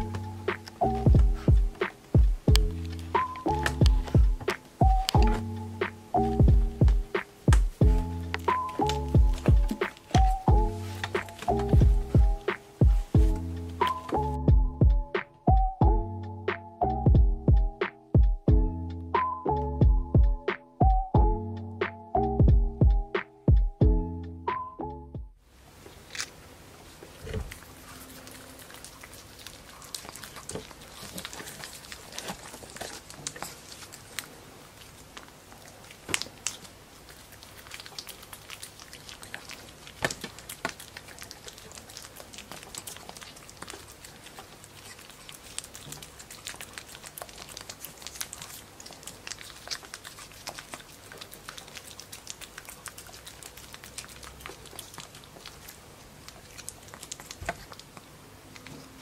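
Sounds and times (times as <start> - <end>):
puppy licking and smacking: 0.0 - 14.3, 25.9 - 59.0.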